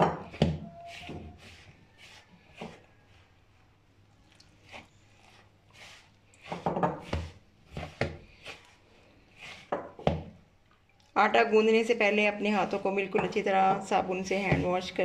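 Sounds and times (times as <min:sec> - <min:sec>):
hand mixing flour in a bowl: 0:00.0 - 0:10.4, 0:11.6 - 0:15.0.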